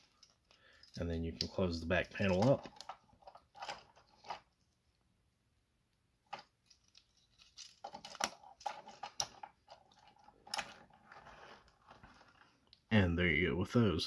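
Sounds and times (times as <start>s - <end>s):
handling rustle: 0.0s - 4.8s, 6.3s - 12.8s.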